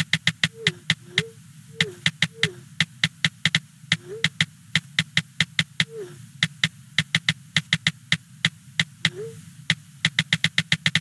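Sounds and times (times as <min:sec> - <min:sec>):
clicking drum machine beat: 0:00.0 - 0:11.0.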